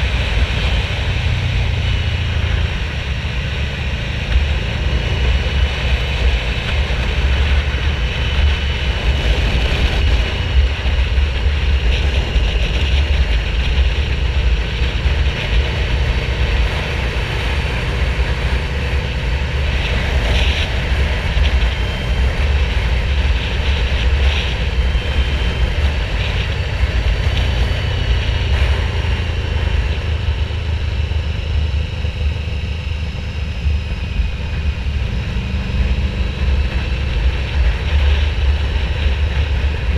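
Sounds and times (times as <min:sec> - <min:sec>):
motorcycle engine deep rumble: 0:00.0 - 0:39.9.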